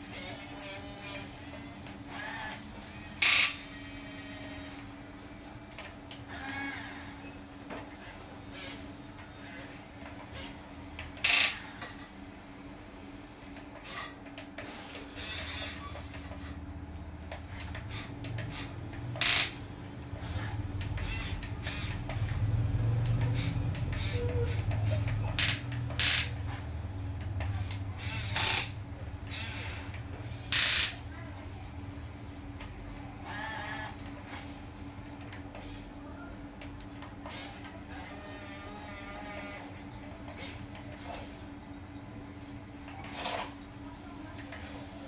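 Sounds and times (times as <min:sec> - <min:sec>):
electric motors humming: 0:00.0 - 0:45.0.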